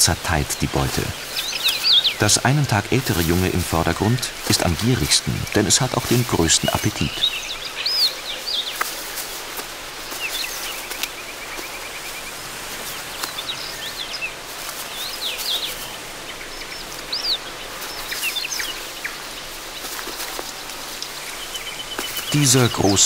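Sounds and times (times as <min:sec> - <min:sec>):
birds calling with whistled notes: 0:00.0 - 0:23.0
steady outdoor hiss: 0:00.0 - 0:23.0.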